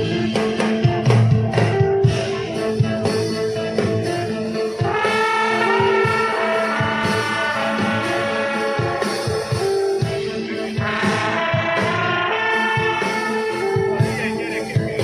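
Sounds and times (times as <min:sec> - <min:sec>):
drum beat: 0:00.0 - 0:15.0
melody of held notes: 0:00.0 - 0:15.0.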